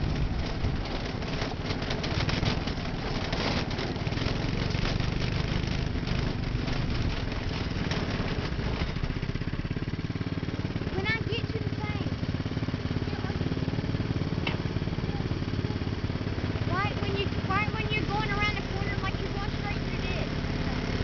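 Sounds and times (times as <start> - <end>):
go-kart engine running: 0.0 - 21.0.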